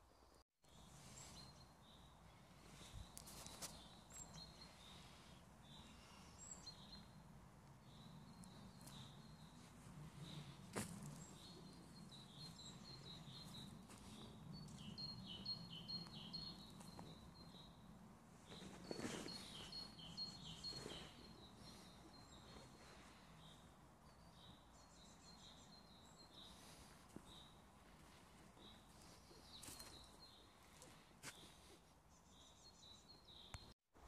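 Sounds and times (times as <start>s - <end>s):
songbirds chirping: 0.0s - 33.8s.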